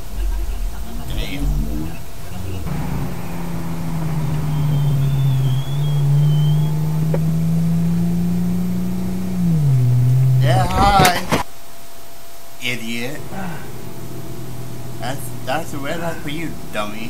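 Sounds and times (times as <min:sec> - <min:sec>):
car engine and road hum: 0:00.0 - 0:11.5, 0:12.7 - 0:17.0.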